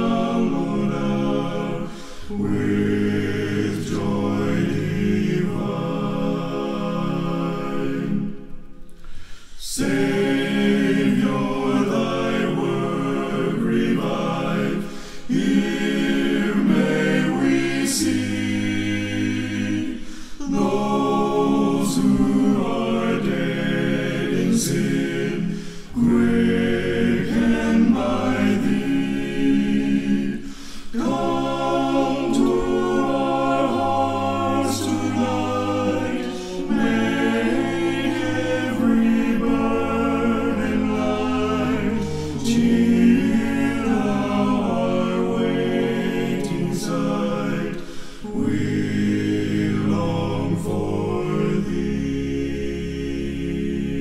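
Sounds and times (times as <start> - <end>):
male vocal group singing in harmony: 0.0 - 54.0.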